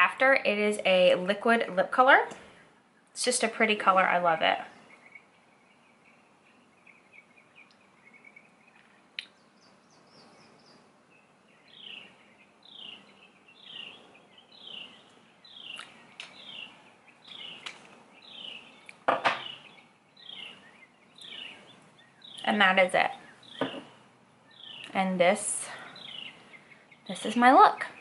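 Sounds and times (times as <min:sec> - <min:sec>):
bird singing faintly: 0:04.0 - 0:28.0.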